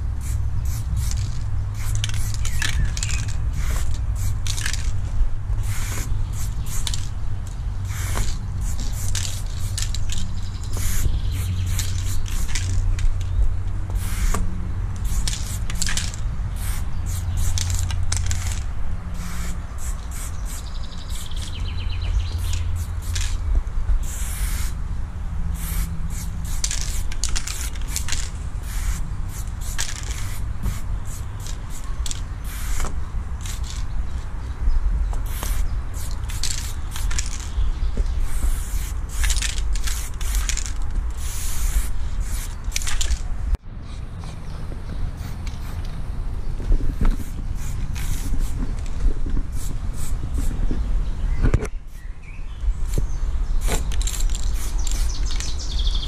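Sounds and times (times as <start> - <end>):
spray paint can hissing: 0.0 - 24.8, 25.6 - 33.9, 35.2 - 43.3, 45.2 - 45.9, 47.0 - 50.6, 52.8 - 56.0
steady low rumble: 0.0 - 56.0.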